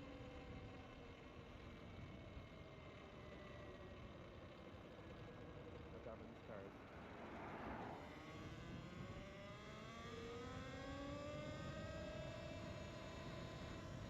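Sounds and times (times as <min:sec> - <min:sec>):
motor hum rising in pitch: 0:00.0 - 0:14.0.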